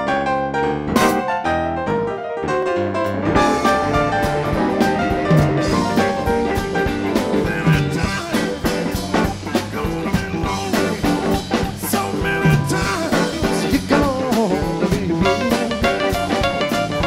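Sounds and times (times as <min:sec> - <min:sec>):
blues rock band playing: 0:00.0 - 0:17.0
drum kit: 0:00.9 - 0:17.0
electric guitar: 0:00.9 - 0:17.0.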